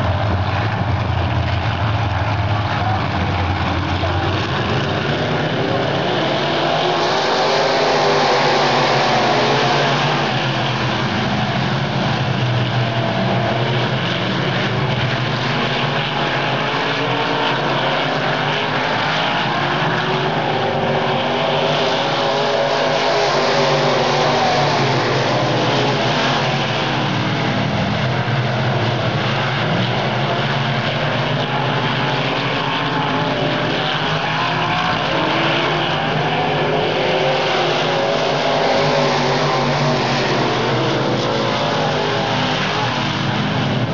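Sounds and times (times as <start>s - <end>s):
race car engines: 0.0s - 43.9s.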